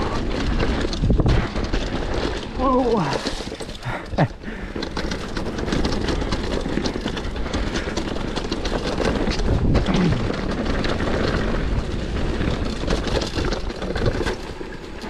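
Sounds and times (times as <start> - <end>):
bike crackling and rattling: 0.0 - 15.0
tyres crunching over gravel: 0.0 - 15.0.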